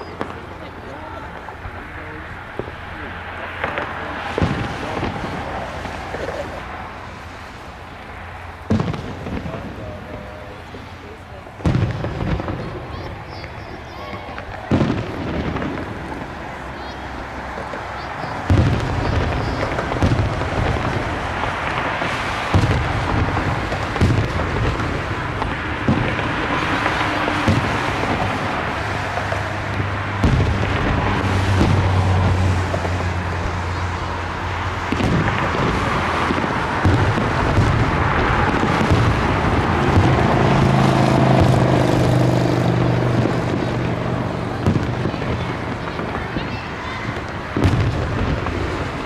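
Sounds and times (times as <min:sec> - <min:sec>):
background noise: 0:00.0 - 0:49.0
crackling fireworks rumble: 0:00.0 - 0:49.0
firework shells booming: 0:00.0 - 0:49.0
vehicle engine humming: 0:00.0 - 0:49.0.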